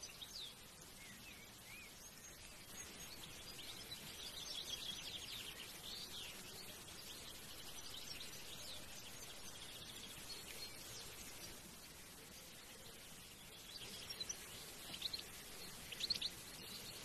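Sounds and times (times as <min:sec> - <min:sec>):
faint background hiss: 0:00.0 - 0:17.0
small birds chirping: 0:00.0 - 0:17.0.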